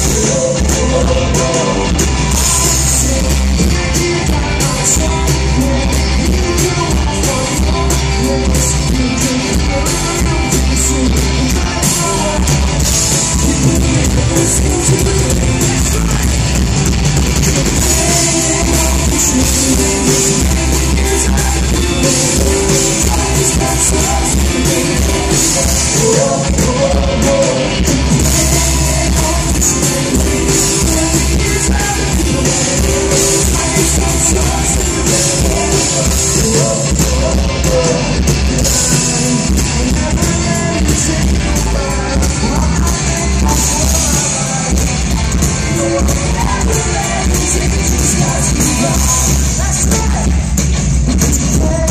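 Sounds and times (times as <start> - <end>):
bass guitar: 0.0 - 51.9
drums: 0.0 - 51.9
electric guitars: 0.0 - 51.9
keyboard: 0.0 - 51.9
male lead vocal: 0.0 - 51.9.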